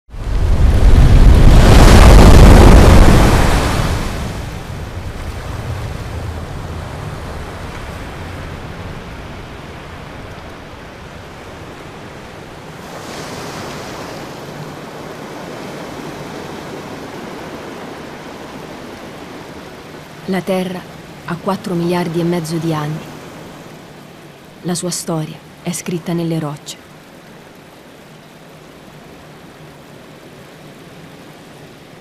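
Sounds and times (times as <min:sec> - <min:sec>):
sea surf over rock: 0:00.1 - 0:32.0.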